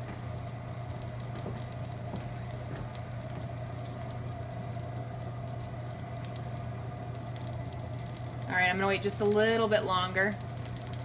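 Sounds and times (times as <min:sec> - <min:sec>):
range hood fan humming: 0:00.0 - 0:11.0.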